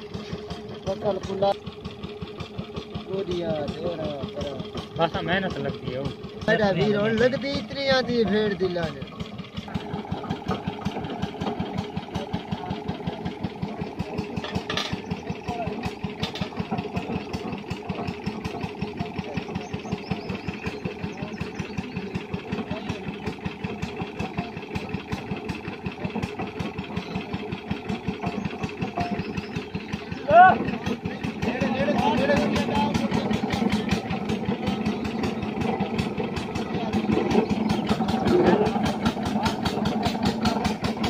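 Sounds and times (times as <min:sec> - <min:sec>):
stationary engine running: 0:00.0 - 0:41.0.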